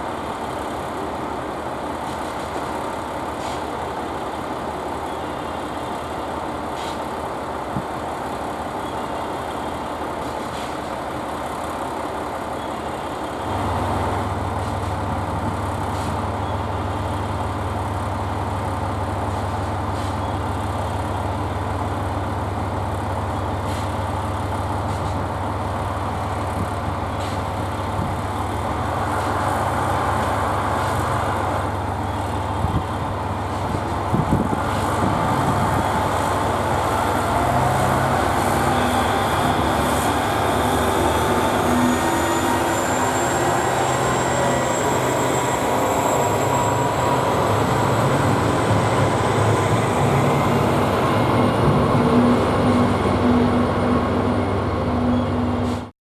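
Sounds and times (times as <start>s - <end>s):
diesel railcar engines: 0.0s - 55.9s
rising whine of train: 0.0s - 55.9s.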